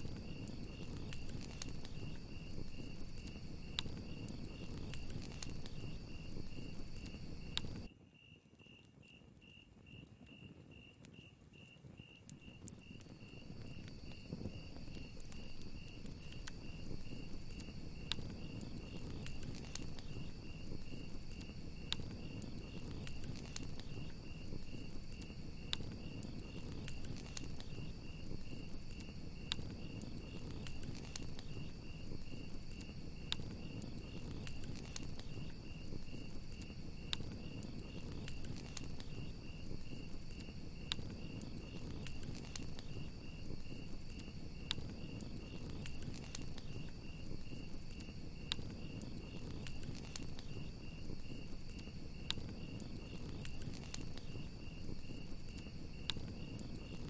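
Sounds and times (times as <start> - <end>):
campfire crackling and popping: 0.0 - 8.0, 8.6 - 57.0
crickets chirping: 0.0 - 57.0.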